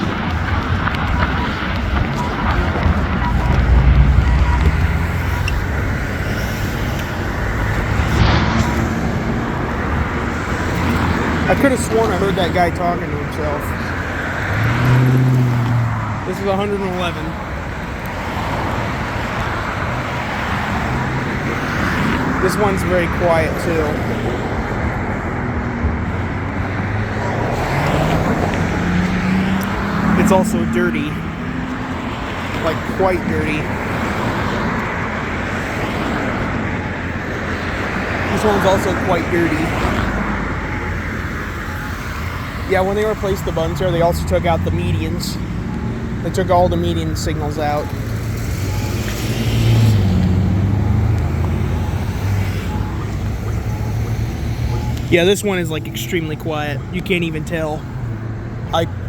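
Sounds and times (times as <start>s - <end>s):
cars passing: 0.0s - 59.0s
road traffic noise: 0.0s - 59.0s.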